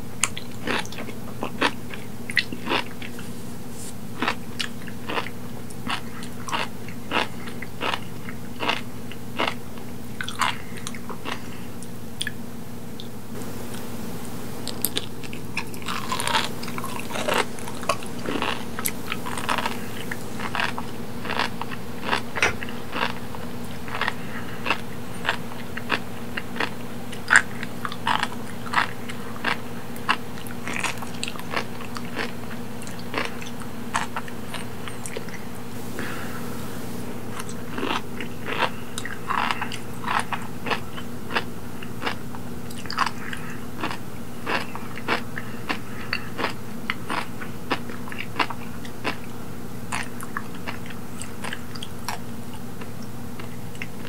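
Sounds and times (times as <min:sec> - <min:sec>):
seaweed chewing crunch: 0:00.2 - 0:09.6, 0:13.4 - 0:49.2.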